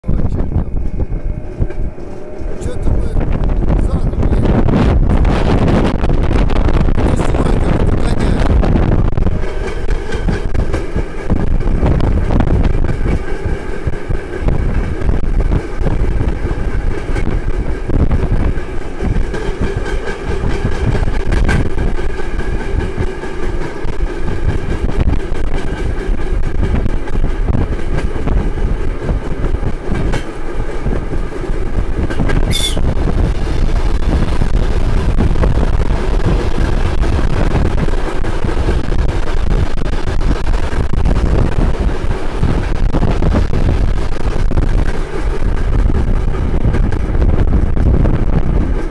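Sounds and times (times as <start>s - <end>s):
wheels rumbling over rails: 0.0s - 48.9s.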